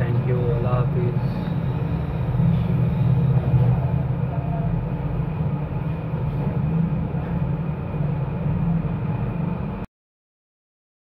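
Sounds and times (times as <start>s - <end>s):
faint hum: 0.0s - 9.9s
low rumbling background noise: 0.0s - 9.9s.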